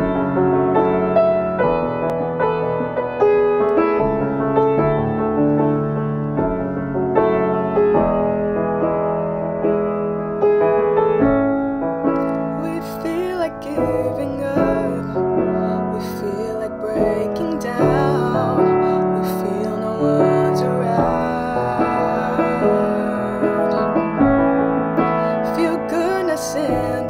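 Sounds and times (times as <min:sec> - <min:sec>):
slow piano chords: 0:00.0 - 0:27.0.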